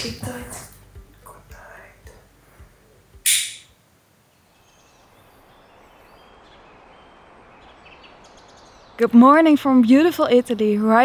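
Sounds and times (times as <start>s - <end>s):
outdoor ambience: 0.0s - 11.0s.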